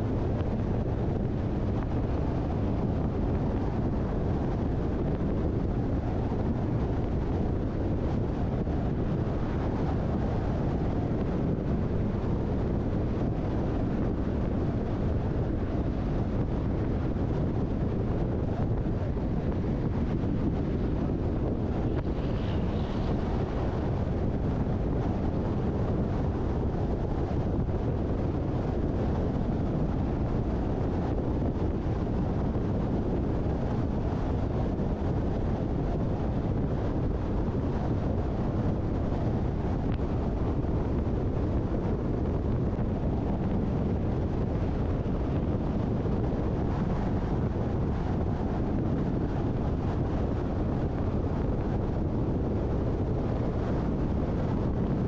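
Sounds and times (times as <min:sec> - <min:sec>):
car road and wind noise: 0:00.0 - 0:55.0.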